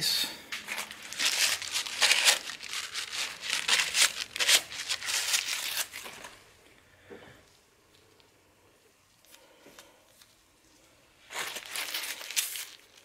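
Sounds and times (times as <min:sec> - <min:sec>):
hands crinkling and rustling: 0:00.5 - 0:06.8, 0:07.4 - 0:13.0.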